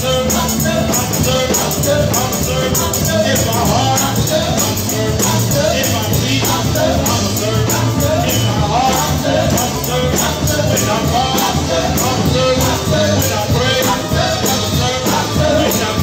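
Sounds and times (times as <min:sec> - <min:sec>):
tambourine shaking: 0:00.0 - 0:16.0
voices singing: 0:00.0 - 0:16.0.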